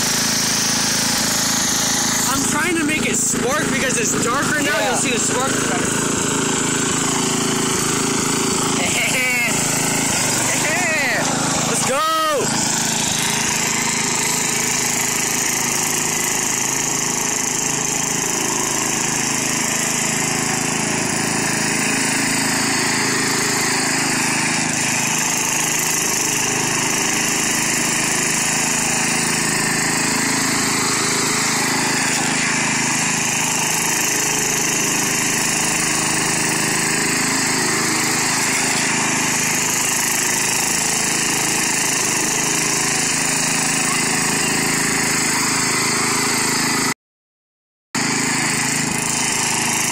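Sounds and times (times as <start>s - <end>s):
riding lawn mower engine running: 0.0s - 46.9s, 48.0s - 49.9s.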